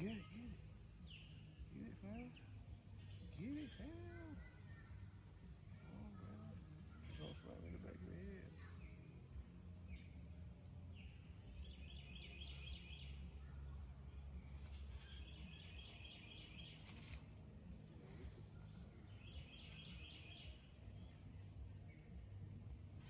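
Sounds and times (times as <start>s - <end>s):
faint low rumble: 0.0s - 23.0s.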